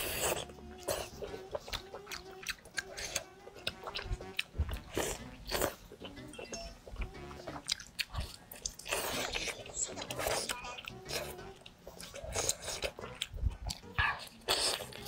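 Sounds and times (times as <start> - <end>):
faint background music: 0.0 - 15.0
wet chewing and lip smacks: 0.5 - 6.2, 6.9 - 15.0.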